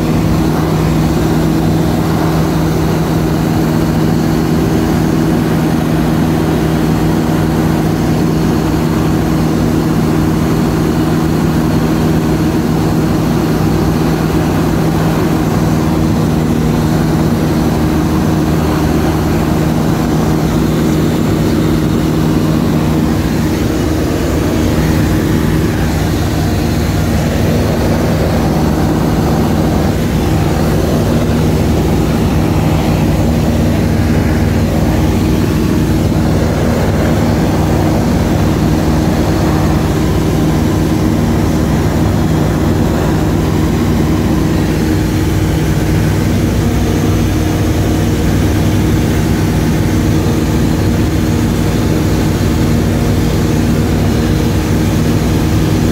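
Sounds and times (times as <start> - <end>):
aircraft engine and propeller droning: 0.0 - 55.9.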